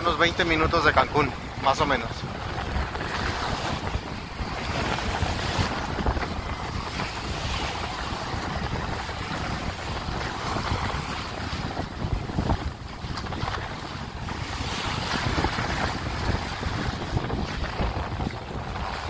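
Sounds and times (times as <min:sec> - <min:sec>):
small waves breaking on beach: 0:00.0 - 0:19.0
wind buffeting microphone: 0:00.0 - 0:19.0
steady low rumble: 0:00.9 - 0:19.0.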